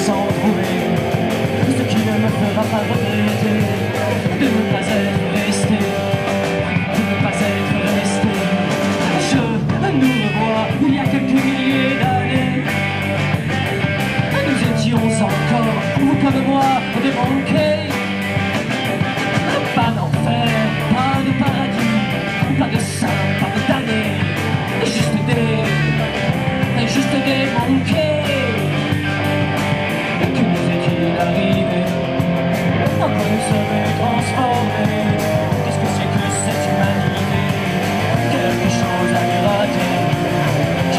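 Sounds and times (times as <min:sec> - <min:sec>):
person singing into a microphone: 0:00.0 - 0:12.7, 0:14.3 - 0:18.1, 0:19.4 - 0:26.0, 0:26.6 - 0:28.7, 0:30.2 - 0:32.2, 0:32.8 - 0:40.9
rock band playing: 0:00.0 - 0:40.9.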